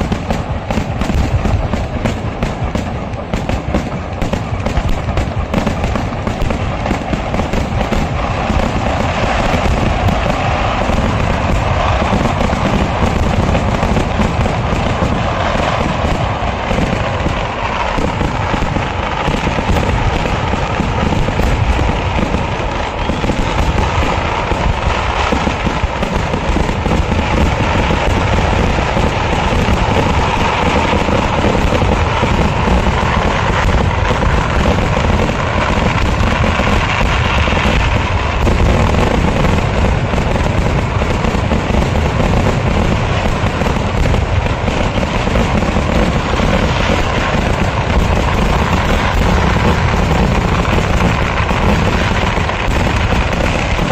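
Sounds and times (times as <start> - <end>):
firecracker blasts barrage: 0.0 - 53.9.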